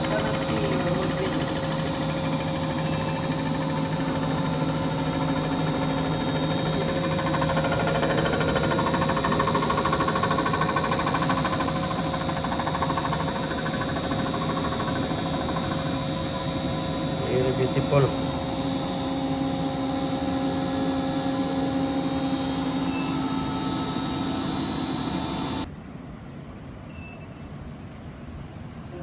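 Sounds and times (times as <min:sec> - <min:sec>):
machining equipment humming and whining: 0:00.0 - 0:25.7.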